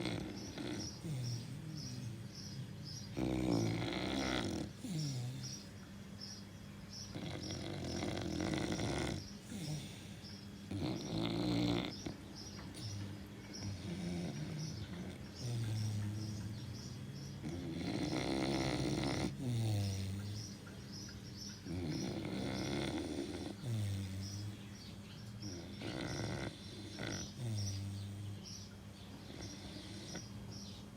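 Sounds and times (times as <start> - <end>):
dog snoring: 0.0 - 5.7, 7.0 - 20.6, 21.5 - 30.8.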